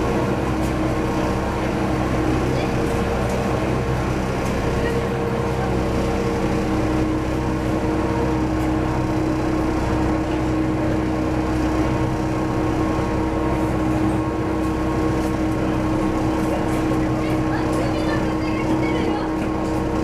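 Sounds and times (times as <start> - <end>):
railcar engine drone: 0.0 - 20.0.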